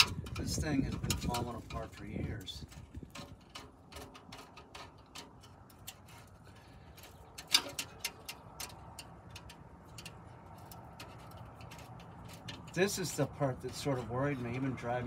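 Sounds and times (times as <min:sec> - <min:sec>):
hand tool scraping metal pipe: 0:00.0 - 0:15.0.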